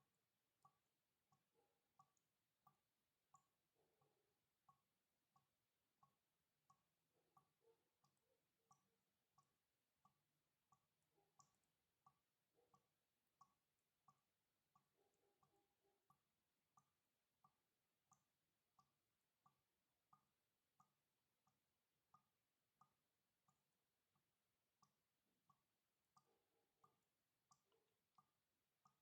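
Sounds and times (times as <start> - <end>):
faint water dripping: 0.0 - 29.0
softer lower drip: 0.0 - 29.0.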